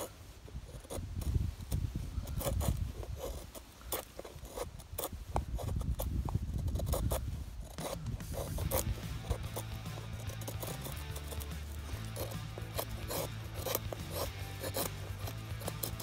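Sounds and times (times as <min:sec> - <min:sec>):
knife blade scraping wood: 0:00.0 - 0:16.0.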